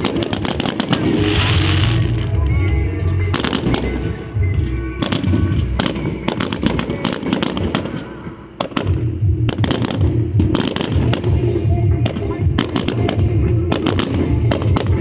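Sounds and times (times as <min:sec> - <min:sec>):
music with bass beat: 0:00.0 - 0:07.8, 0:08.7 - 0:15.0
fireworks bangs and crackles: 0:00.0 - 0:15.0.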